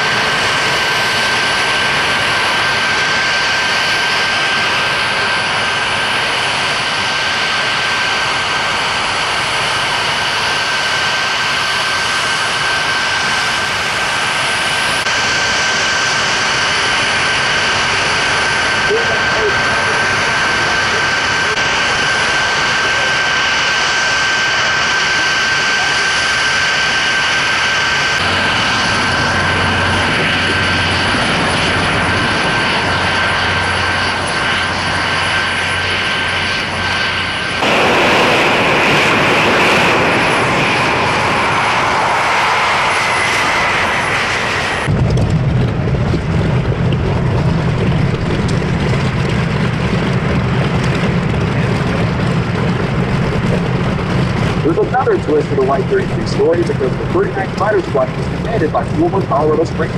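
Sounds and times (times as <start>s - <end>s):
aircraft engines running: 0.0s - 59.9s
high whine: 0.0s - 59.9s
radial engines idling rumble: 0.0s - 59.9s.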